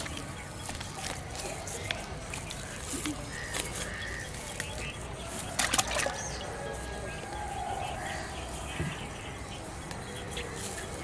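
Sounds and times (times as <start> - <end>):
faint bird calls: 1.5 - 11.0.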